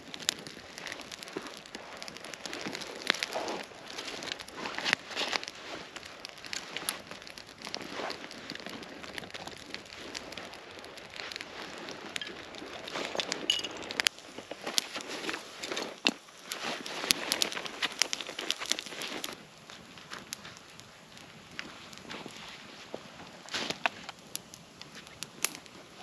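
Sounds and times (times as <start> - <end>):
kindling fire crackling and popping: 0.0 - 26.0.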